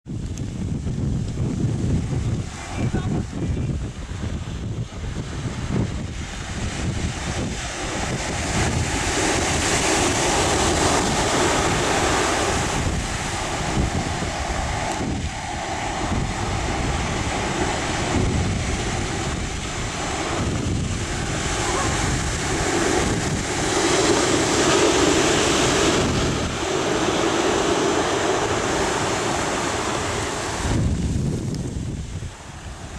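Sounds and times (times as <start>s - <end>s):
wind buffeting microphone: 0.0s - 32.9s
ocean surf breaking: 1.2s - 32.9s.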